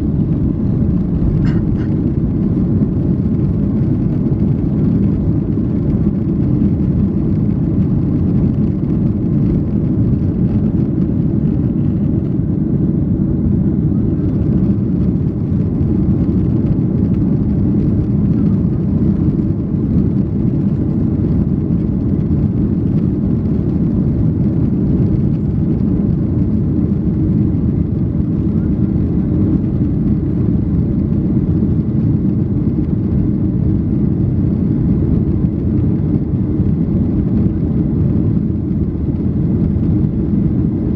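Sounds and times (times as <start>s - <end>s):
aircraft engine rumble: 0.0s - 40.9s
rushing airflow: 0.0s - 40.9s.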